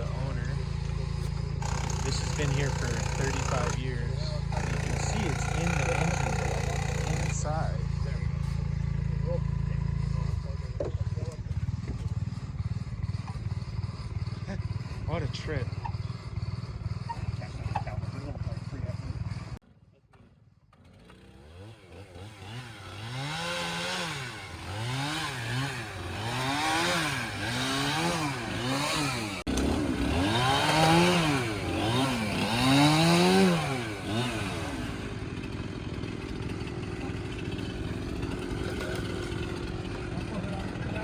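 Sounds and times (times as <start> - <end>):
chainsaw engine revving: 0.0 - 41.0.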